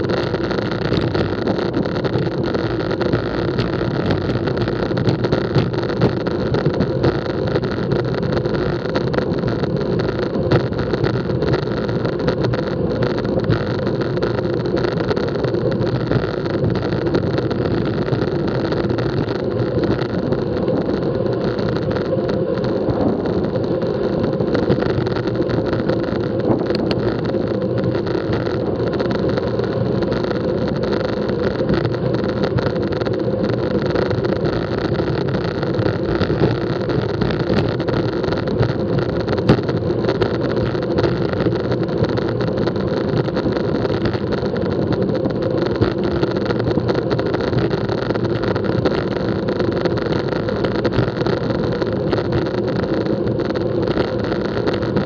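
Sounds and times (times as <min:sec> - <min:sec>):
bike tyres humming on asphalt: 0:00.0 - 0:55.0
wind rushing on microphone: 0:00.0 - 0:55.0.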